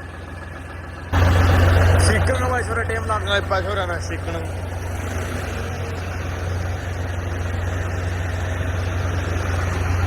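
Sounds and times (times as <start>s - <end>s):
tractor diesel engine droning: 0.0s - 10.0s.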